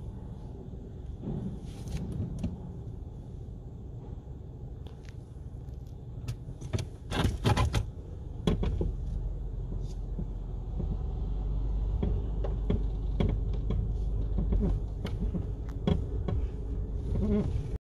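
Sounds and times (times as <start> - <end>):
car engine and tyres rumbling: 0.0 - 17.8.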